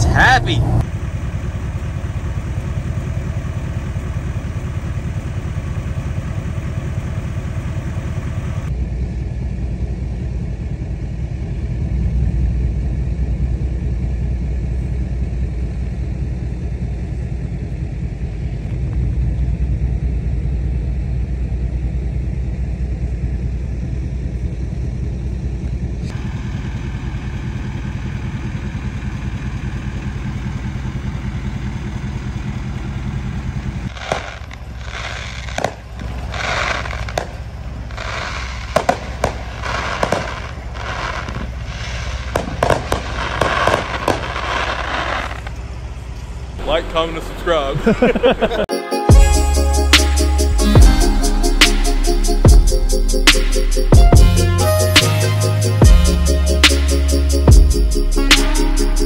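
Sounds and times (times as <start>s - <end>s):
pickup truck engines idling: 0.0s - 59.0s.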